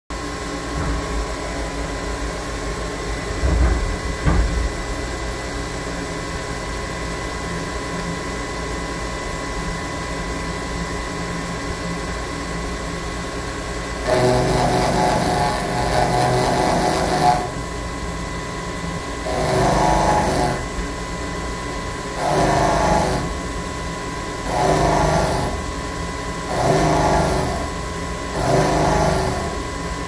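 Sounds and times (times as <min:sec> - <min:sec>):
machine humming with high whine: 0:00.1 - 0:30.0.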